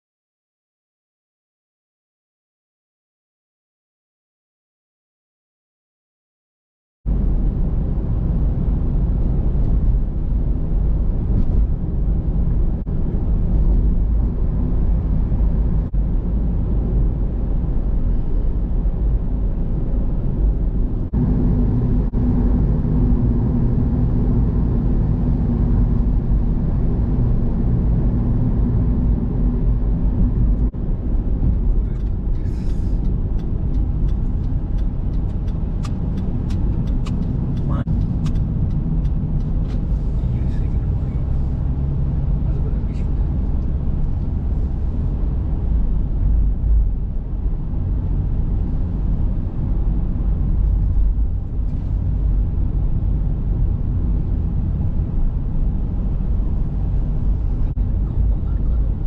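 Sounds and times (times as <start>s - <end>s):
car road and engine noise: 7.1s - 59.0s.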